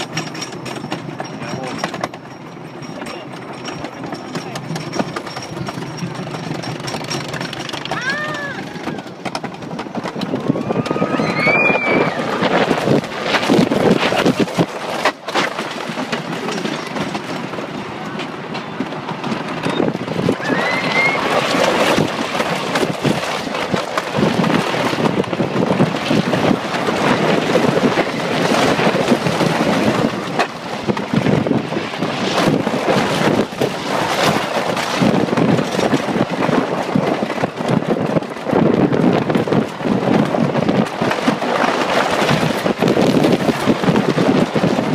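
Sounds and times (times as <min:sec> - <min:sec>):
roller coaster rattling on track: 0:00.0 - 0:44.9
wind rushing over microphone: 0:06.8 - 0:44.9.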